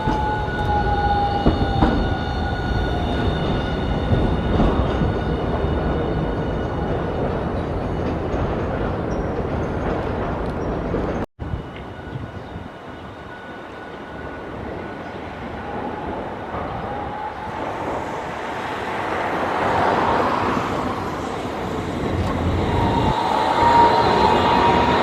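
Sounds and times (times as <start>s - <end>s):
streetcar running noise: 0.0s - 25.0s.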